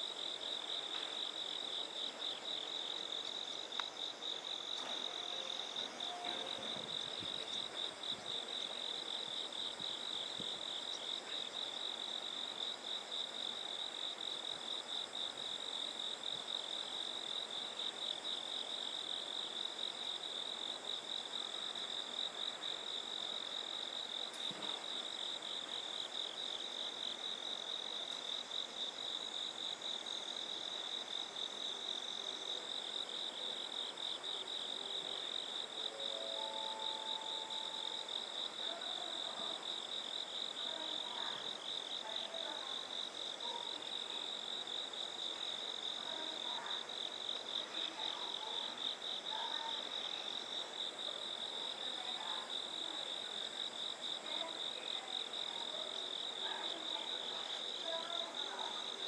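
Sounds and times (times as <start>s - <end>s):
insects trilling: 0.2s - 52.8s.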